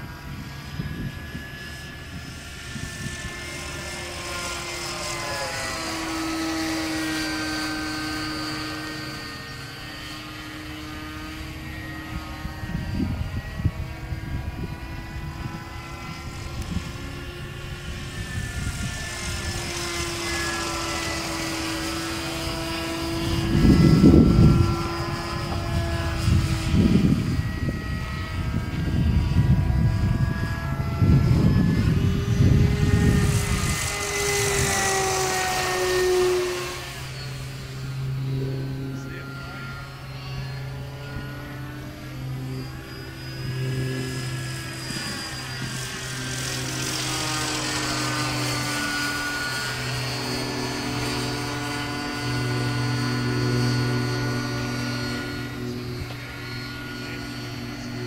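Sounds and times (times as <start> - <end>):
gyrocopter engine droning overhead: 0.0 - 58.0.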